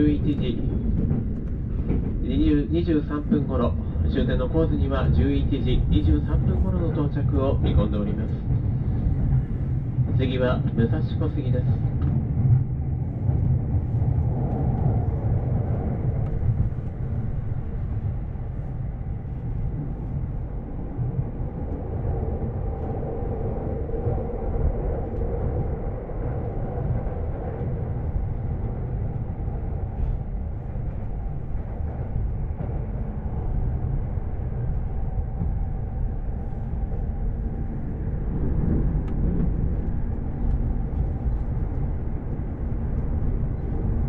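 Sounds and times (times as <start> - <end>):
train wheels rumbling: 0.0 - 44.0.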